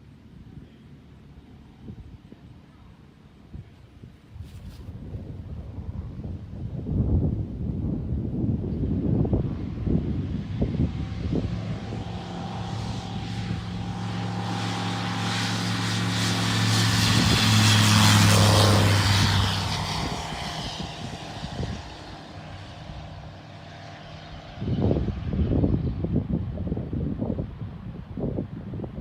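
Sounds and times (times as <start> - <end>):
propeller aircraft engine passing: 0.0 - 29.0
wind buffeting microphone: 1.6 - 29.0.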